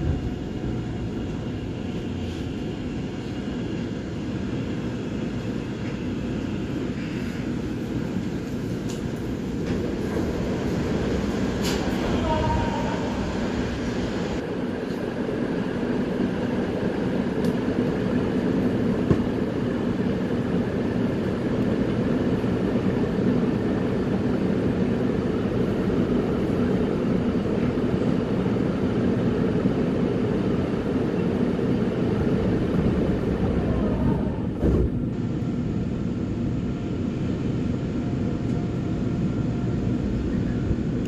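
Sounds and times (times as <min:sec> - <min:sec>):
electric train running on rails: 0:00.0 - 0:41.0.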